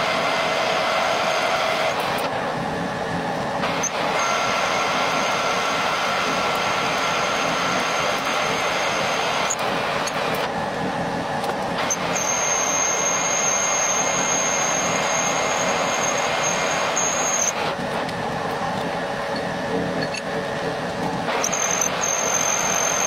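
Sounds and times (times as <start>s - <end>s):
high steady whine: 0.0s - 23.0s
metal lathe running: 0.0s - 23.0s.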